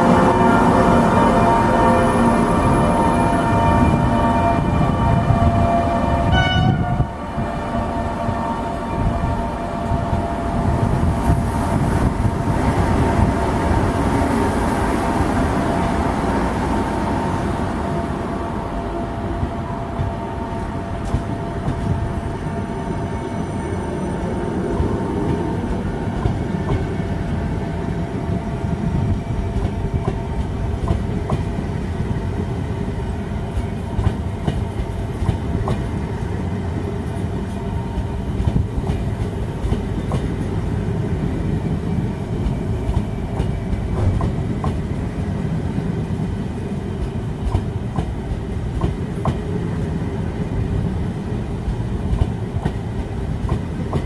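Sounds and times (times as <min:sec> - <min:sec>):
train coaches rumbling past: 0:00.0 - 0:54.0.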